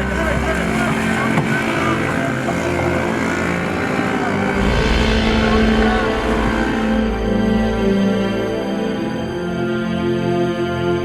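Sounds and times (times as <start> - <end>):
music: 0.0 - 11.0
motor rumbling: 0.3 - 9.2.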